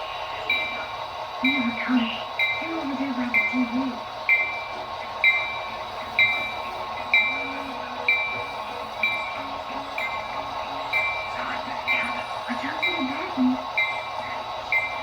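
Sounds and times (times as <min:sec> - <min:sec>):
locomotive bell ringing: 0:00.0 - 0:15.0
steady hum: 0:00.0 - 0:15.0.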